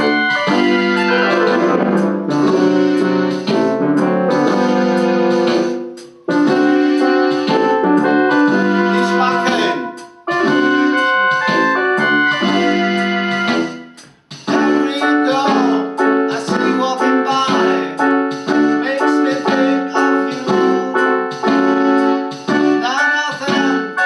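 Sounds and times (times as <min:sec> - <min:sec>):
keyboard playing sustained chords: 0:00.0 - 0:13.9, 0:14.5 - 0:23.0.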